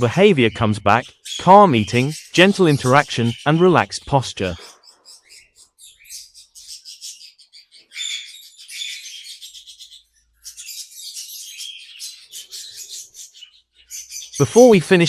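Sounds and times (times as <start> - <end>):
parrots chirping and chattering: 0.0 - 14.9.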